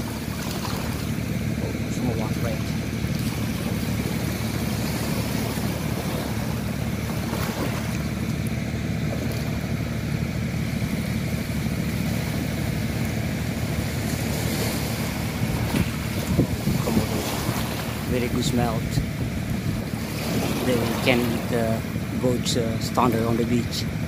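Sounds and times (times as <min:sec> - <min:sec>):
wind rumble on microphone: 0:00.0 - 0:23.3
small waves washing: 0:00.0 - 0:24.0.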